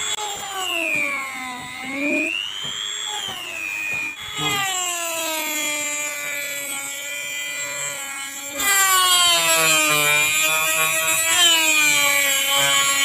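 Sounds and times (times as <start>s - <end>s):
rotary tool cutting wood: 0.0s - 13.0s.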